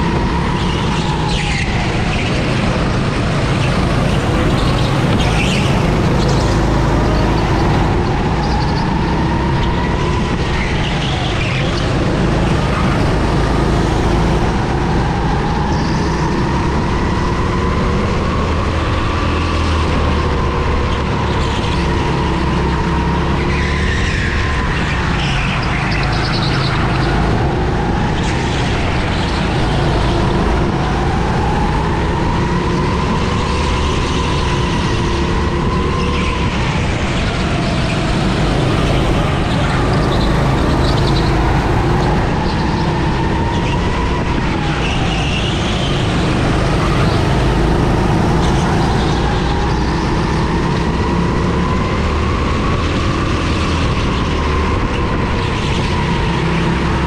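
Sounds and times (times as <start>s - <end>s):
kart engine accelerating: 0.0s - 57.0s.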